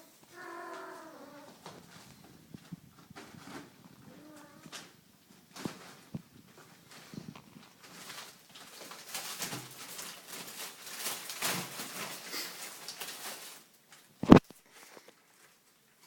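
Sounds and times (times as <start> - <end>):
kittens scuffling and scratching: 0.3 - 16.0.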